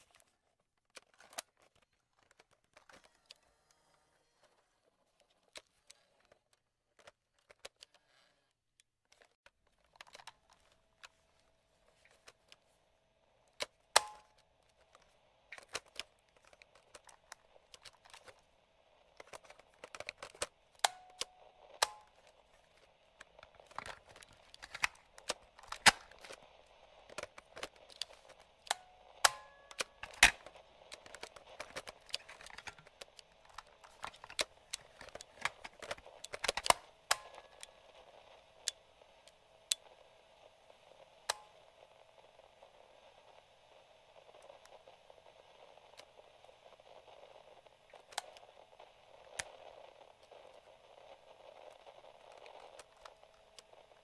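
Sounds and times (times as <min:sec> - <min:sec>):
static clicks and pops: 0:00.0 - 0:03.8, 0:08.7 - 0:54.0
radio static hiss: 0:10.1 - 0:54.0.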